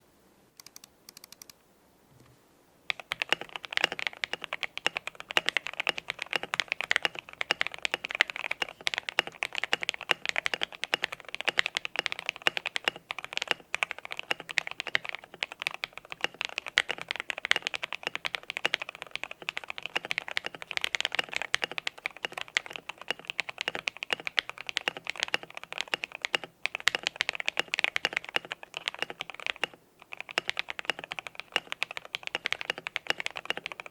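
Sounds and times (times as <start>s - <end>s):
fast typing on mechanical keyboard: 2.9s - 33.9s.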